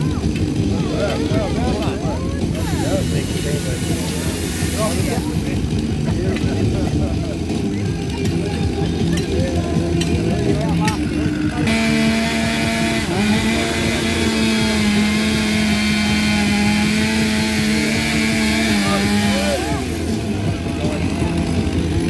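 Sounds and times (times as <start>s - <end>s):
chainsaw cutting wood: 0.1s - 22.0s.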